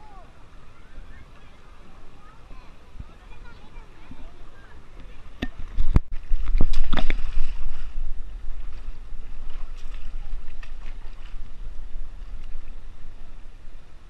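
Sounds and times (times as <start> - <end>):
river water running over rocks: 0.0 - 14.0
wind rumbling on microphone: 0.0 - 14.0.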